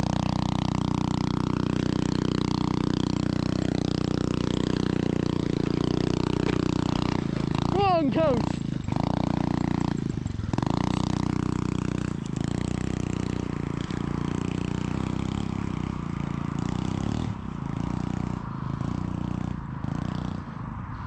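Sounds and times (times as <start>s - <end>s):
small motorbike engine running: 0.0s - 21.0s.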